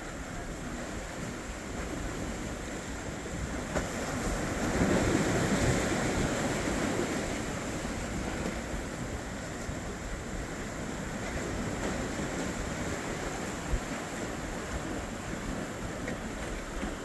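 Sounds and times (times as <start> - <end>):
waves rushing water: 0.0 - 17.0
wind: 0.0 - 17.0.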